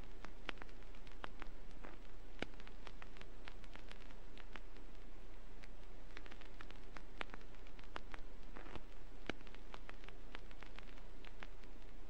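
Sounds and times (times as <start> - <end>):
faint low hum: 0.0 - 12.0
vinyl record clicks and pops: 0.0 - 12.0
vinyl record hiss: 0.0 - 12.0.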